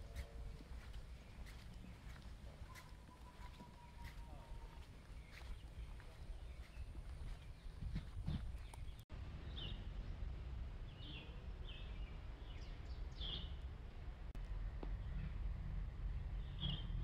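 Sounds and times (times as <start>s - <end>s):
birds chirping: 0.0s - 13.8s, 16.2s - 17.0s
low outdoor rumble: 0.0s - 17.0s.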